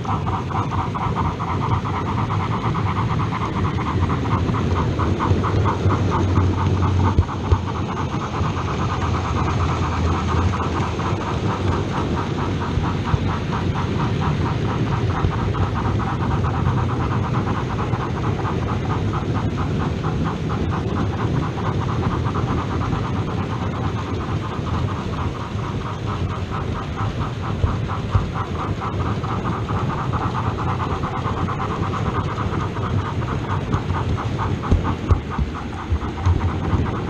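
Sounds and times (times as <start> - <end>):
model train running on track: 0.0 - 37.0.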